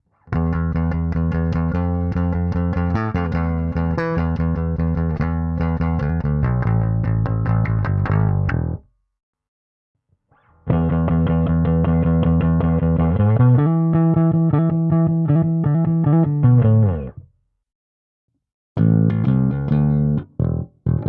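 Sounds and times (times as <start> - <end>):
electric bass riff: 0.2 - 8.9, 10.4 - 17.3, 18.8 - 21.0.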